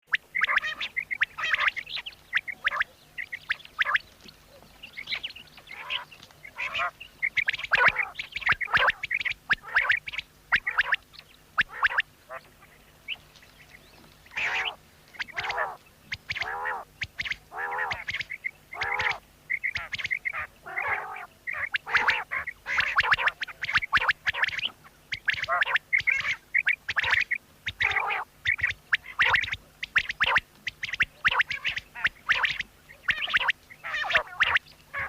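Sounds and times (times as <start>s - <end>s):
quail calling: 0.1s - 35.0s.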